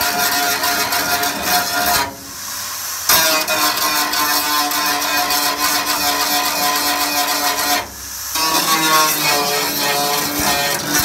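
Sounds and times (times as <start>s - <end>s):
welding torch flame hissing: 0.0s - 11.0s.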